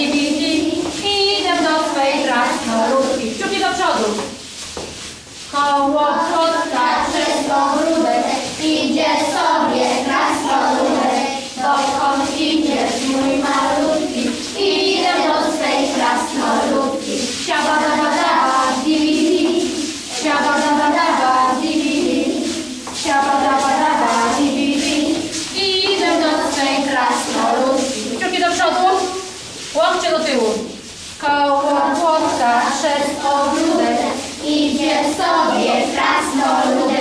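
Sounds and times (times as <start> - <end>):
children singing in unison: 0.0 - 3.2, 5.8 - 28.2, 31.7 - 37.0.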